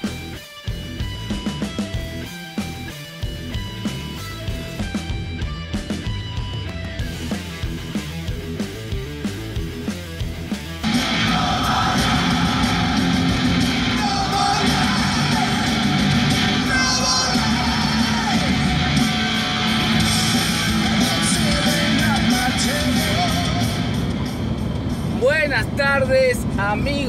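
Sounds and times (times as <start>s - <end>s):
loud rock music: 0.0s - 25.6s.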